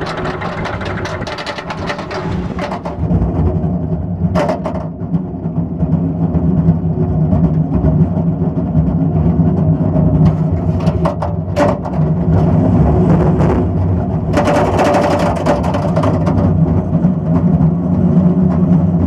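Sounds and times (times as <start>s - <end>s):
roller coaster track clatter: 0.0s - 19.0s
roller coaster wheels rumbling on rails: 0.0s - 19.0s.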